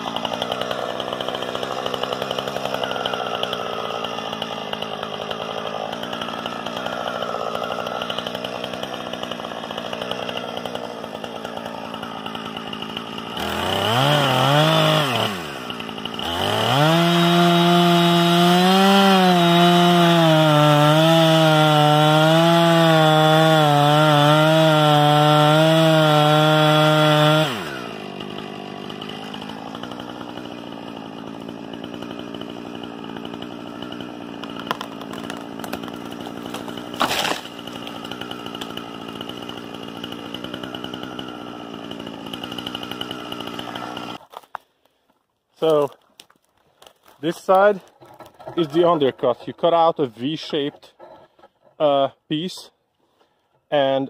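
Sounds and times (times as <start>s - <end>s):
chainsaw idling and revving: 0.0s - 44.6s, 45.6s - 46.3s, 47.0s - 54.0s
chainsaw cutting through tree trunk: 0.0s - 44.7s, 45.6s - 54.0s.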